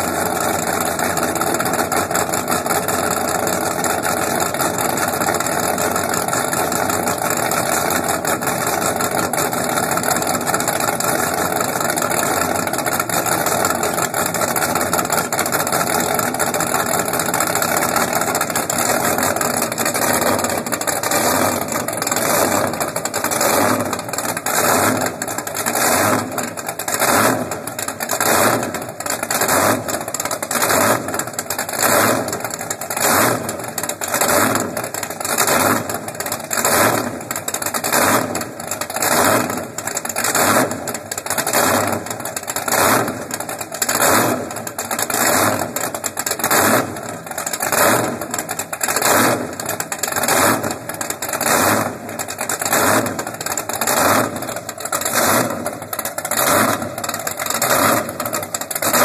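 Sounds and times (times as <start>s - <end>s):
boat engines rumbling: 0.0s - 37.1s, 37.8s - 59.0s.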